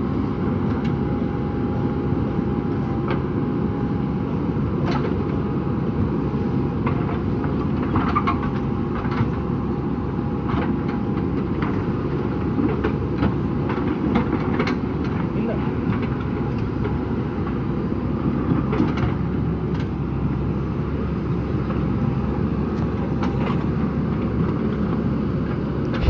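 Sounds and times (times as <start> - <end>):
diesel engine running under load: 0.0 - 26.0.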